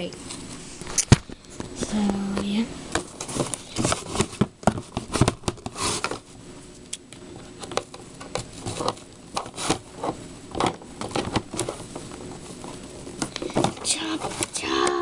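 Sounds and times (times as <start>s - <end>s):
plastic and cardboard rustling: 0.3s - 6.4s, 7.3s - 15.0s.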